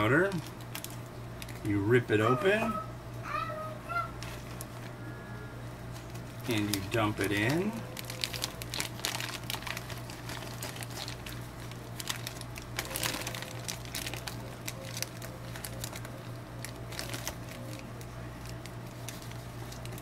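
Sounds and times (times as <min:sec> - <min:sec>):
plastic and foil bag crinkling: 0:00.2 - 0:01.7, 0:04.0 - 0:05.0, 0:05.9 - 0:20.0.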